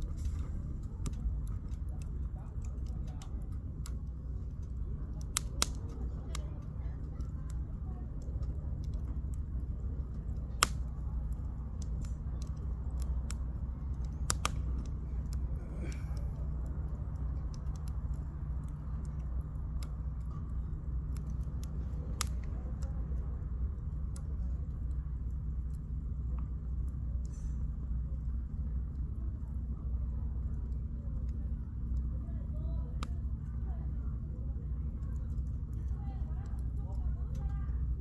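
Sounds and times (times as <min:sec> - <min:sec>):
campfire crackling and popping: 0:00.0 - 0:38.0
steady low rumble: 0:00.0 - 0:38.0.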